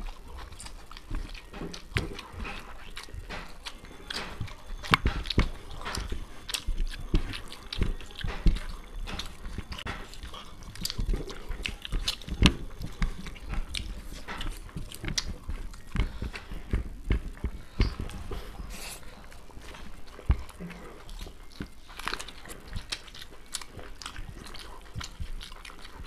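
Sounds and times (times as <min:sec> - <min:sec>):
chewing and lip-smacking: 0:00.0 - 0:26.0.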